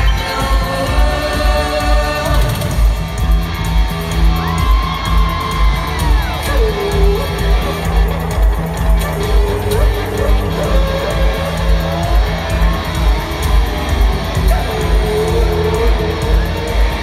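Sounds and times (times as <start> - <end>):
live band playing: 0.0 - 17.0
pounding drum beat: 0.0 - 17.0.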